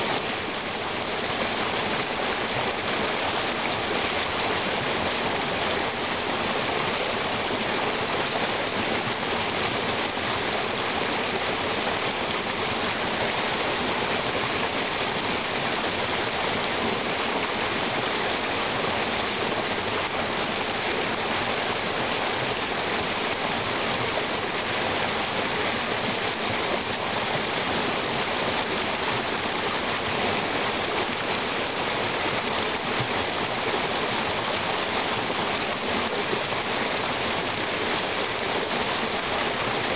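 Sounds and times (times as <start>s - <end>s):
water pouring over waterfall: 0.0s - 39.9s.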